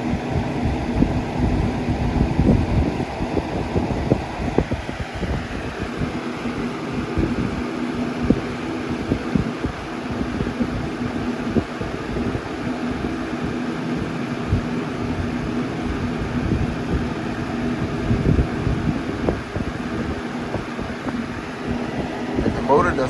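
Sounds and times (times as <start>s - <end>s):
fan airflow buffeting microphone: 0.0s - 23.0s
fan motor hum: 0.0s - 23.0s.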